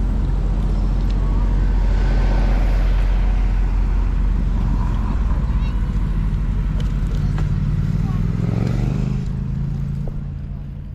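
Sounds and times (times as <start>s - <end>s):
wind and road noise: 0.0s - 10.9s
vehicle passing: 1.1s - 10.2s.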